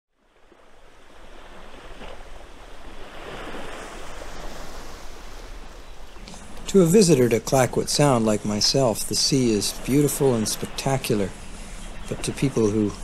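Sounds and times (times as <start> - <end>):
ocean waves washing: 0.2 - 13.0.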